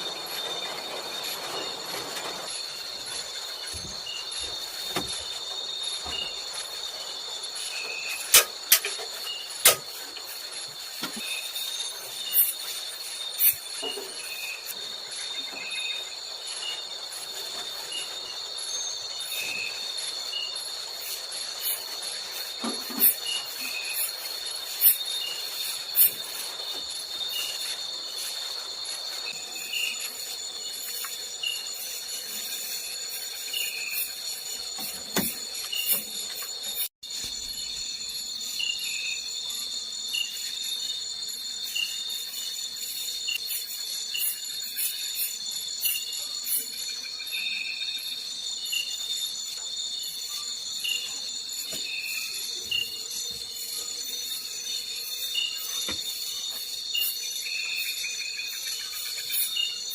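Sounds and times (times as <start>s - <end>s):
night insects chirping: 0.0s - 59.9s.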